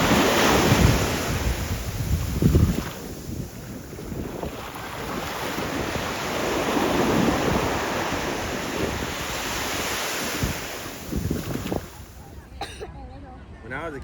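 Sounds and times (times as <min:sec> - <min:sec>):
ocean surf washing in: 0:00.0 - 0:12.2
wind buffeting microphone: 0:00.0 - 0:13.6.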